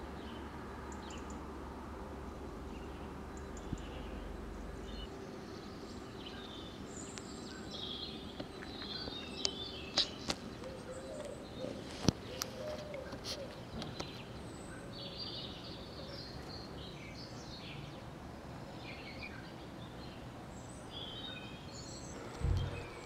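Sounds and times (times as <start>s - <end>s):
small birds chirping: 0.0s - 23.0s
steady background hum: 0.0s - 23.0s.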